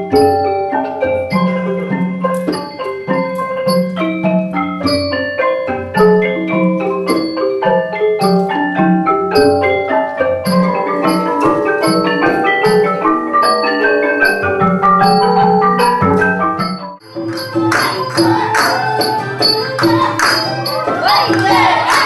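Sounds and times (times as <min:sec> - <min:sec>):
jingling percussion: 0:00.0 - 0:22.0
wooden xylophone melody: 0:00.0 - 0:22.0.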